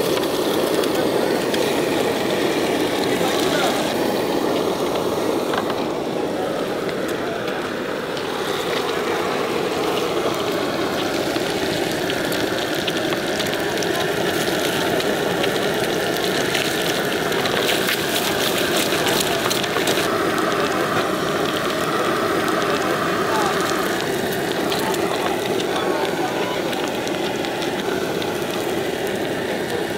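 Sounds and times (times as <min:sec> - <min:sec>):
background voices: 0:00.0 - 0:29.9
oil crackling while frying: 0:00.0 - 0:29.9.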